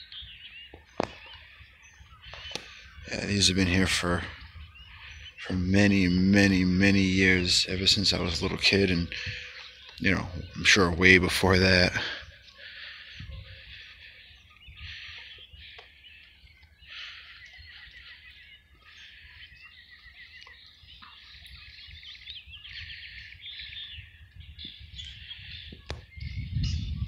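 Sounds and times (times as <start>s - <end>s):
songbirds chirping and singing: 0.0s - 27.0s.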